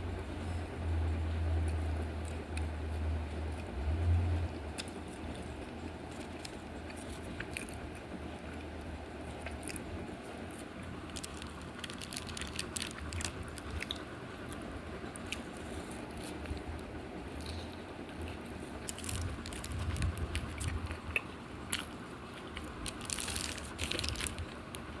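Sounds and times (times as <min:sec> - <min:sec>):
person chewing crunchy food: 0:04.4 - 0:24.9.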